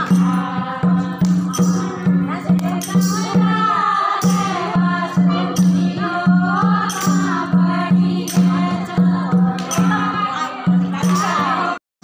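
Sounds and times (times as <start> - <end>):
rhythmic clapping: 0.0 - 10.2
women singing folk song: 0.0 - 11.8.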